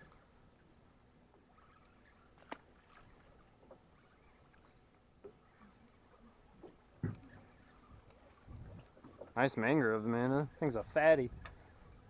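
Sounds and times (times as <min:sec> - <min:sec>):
faint water noise: 0:00.0 - 0:12.0.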